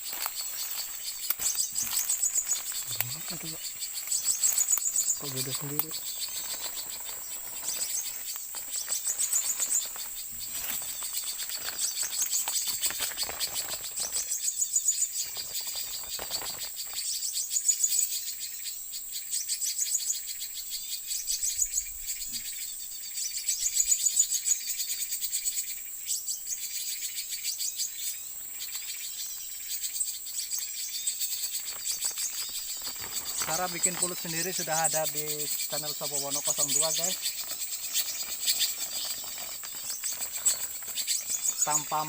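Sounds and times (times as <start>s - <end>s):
insects trilling: 0.0s - 42.0s
small birds twittering: 0.0s - 42.0s.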